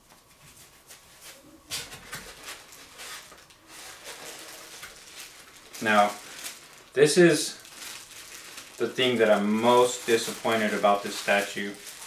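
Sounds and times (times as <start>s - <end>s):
packaging rustling and crinkling: 0.3s - 12.0s.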